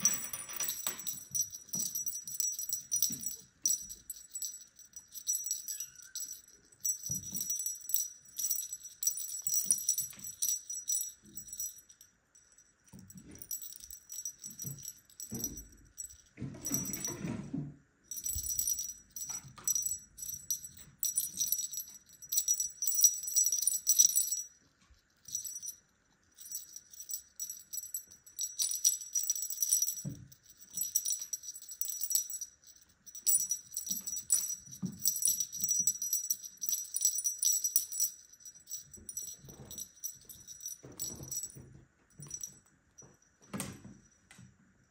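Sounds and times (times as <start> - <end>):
small bell jingling: 0.0 - 17.5, 18.1 - 44.2.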